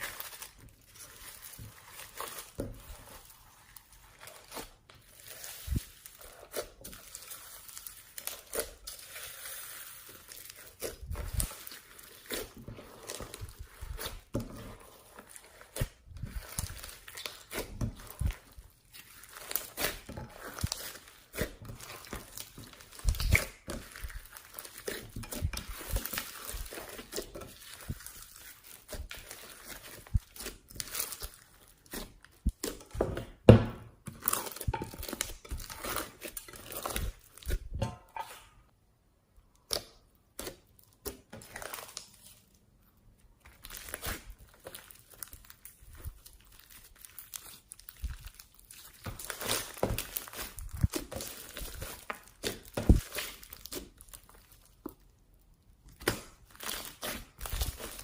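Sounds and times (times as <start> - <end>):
slime squeezed with sticky crackles: 0.0 - 32.9, 43.5 - 58.0.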